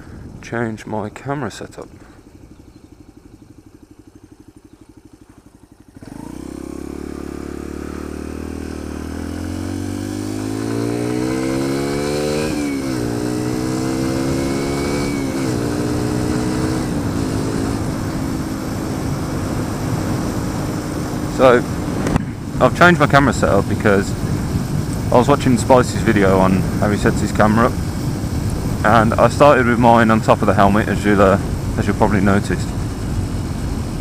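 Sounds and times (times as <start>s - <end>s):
wind noise: 0.0s - 3.5s, 10.1s - 34.0s
motorcycle engine: 0.0s - 34.0s.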